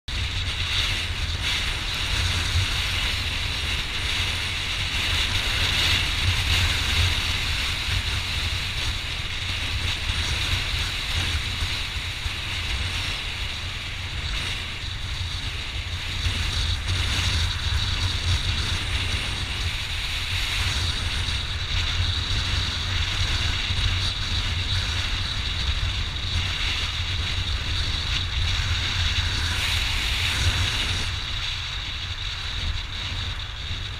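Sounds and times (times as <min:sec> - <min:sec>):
motorcycle engine rumble: 0:00.1 - 0:33.9
wind rush on microphone: 0:00.1 - 0:33.9.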